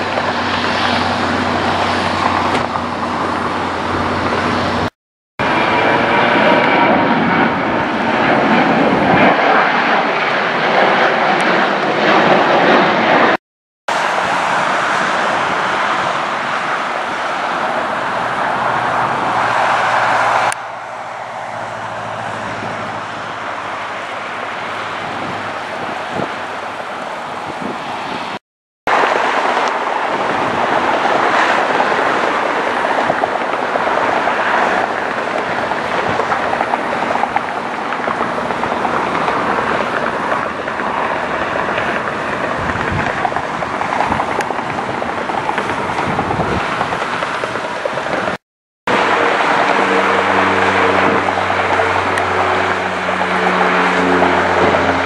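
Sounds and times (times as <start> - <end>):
jet engine rush: 0.0 - 55.0.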